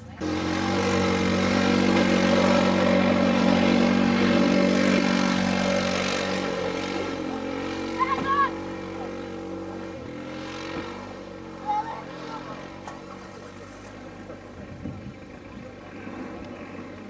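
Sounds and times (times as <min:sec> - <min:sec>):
quad bike engine under load: 0:00.0 - 0:17.0.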